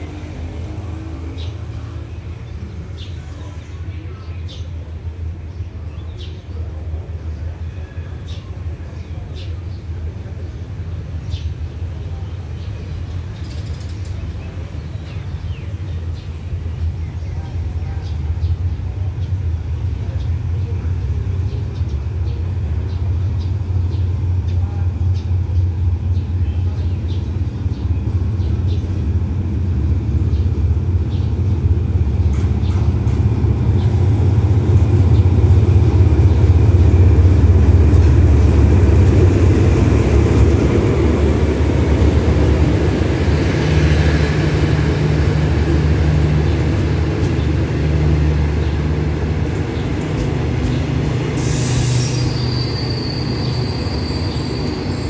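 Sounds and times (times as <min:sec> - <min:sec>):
locomotive deep rumble: 0:00.0 - 0:55.0.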